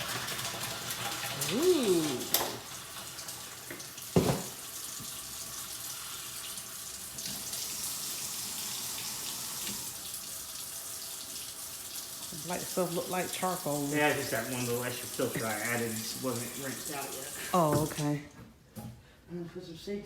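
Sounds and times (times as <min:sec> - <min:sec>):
water running from faucet: 0:00.0 - 0:18.2.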